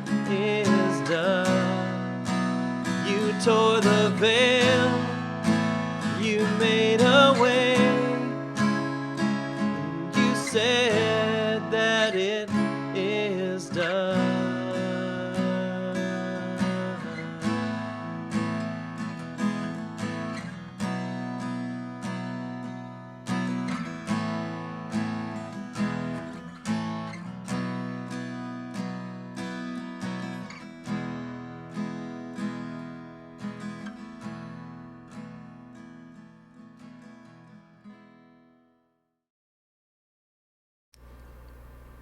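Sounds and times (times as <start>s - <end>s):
acoustic guitar strumming chords: 0.0s - 38.4s.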